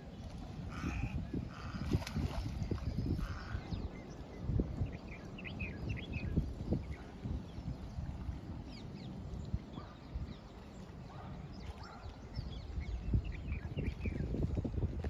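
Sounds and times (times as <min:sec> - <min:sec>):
birds chirping: 0:00.1 - 0:14.3.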